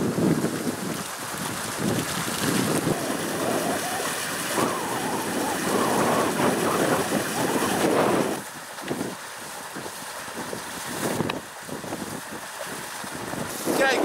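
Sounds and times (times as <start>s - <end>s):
water rushing through culvert: 0.0s - 14.0s.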